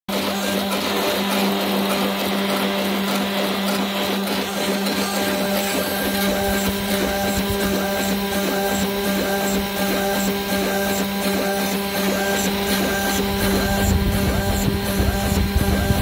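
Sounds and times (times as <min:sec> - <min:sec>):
end mill grinding cut: 0:00.1 - 0:16.0
mill spindle whine: 0:00.1 - 0:16.0.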